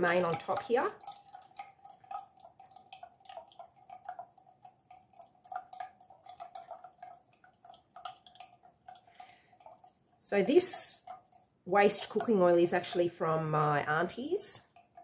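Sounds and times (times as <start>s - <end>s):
oil dripping into oil: 0.0s - 13.2s, 14.6s - 15.0s.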